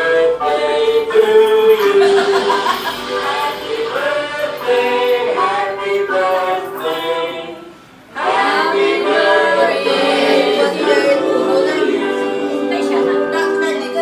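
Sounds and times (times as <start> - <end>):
music: 0.0 - 14.0
people singing: 0.0 - 14.0.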